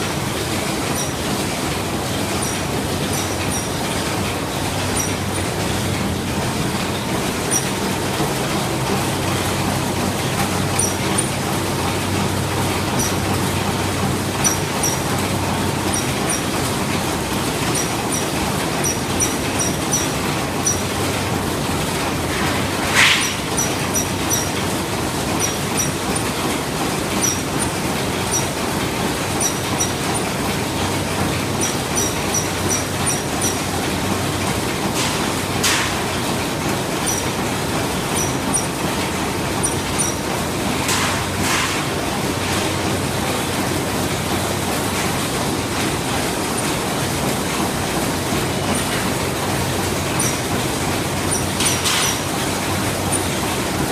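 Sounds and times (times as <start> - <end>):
machine running with low drone: 0.0 - 53.9.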